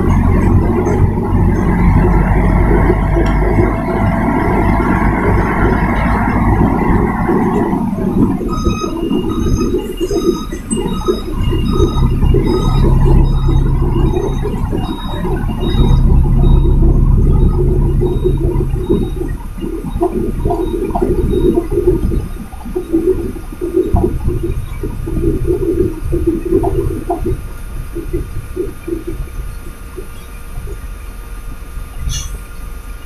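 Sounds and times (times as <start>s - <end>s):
truck rumbling from cab: 0.0s - 33.0s.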